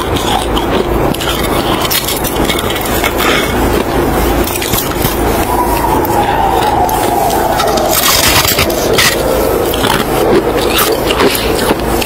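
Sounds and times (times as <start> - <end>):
snow being chewed: 0.0 - 12.0.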